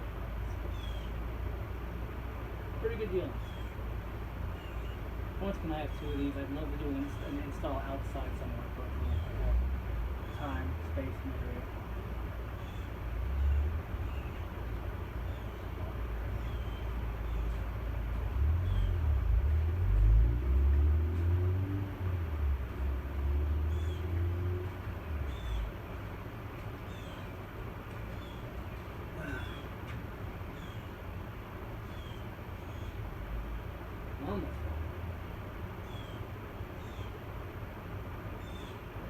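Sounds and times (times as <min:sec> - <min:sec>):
ceiling fan rumble: 0:00.0 - 0:39.0.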